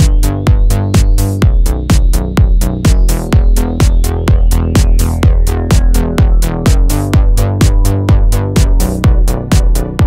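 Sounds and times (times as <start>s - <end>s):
kick drum beat: 0.0s - 10.0s
sustained synth notes: 0.0s - 10.0s.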